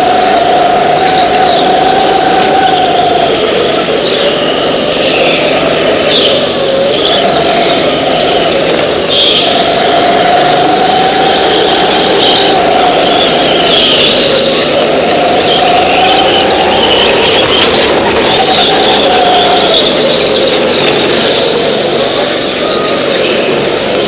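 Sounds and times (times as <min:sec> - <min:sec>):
go-kart engine running hard: 0:00.0 - 0:24.0.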